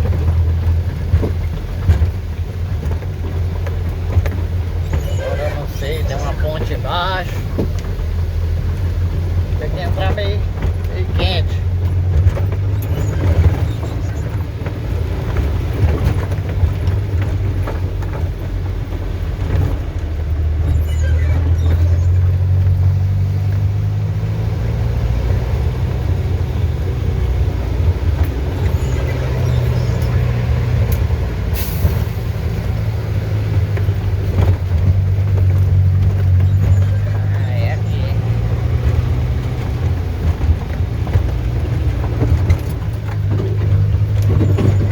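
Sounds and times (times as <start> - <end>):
truck engine running hard: 0.0 - 44.9.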